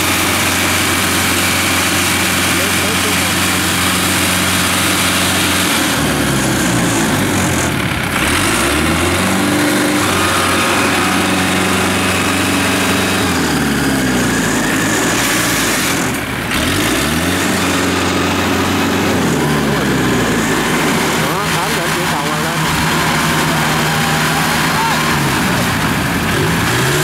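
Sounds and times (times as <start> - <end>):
harvester engine revving: 0.0 - 27.0.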